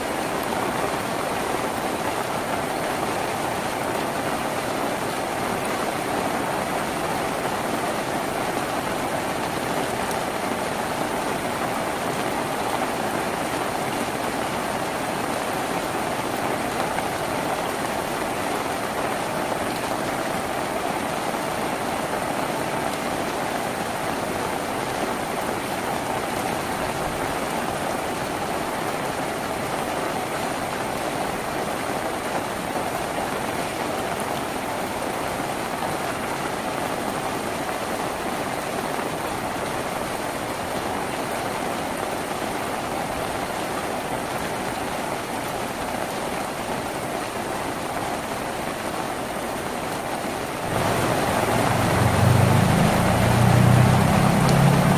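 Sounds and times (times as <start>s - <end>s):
rain drumming on a tin roof: 0.0s - 54.9s.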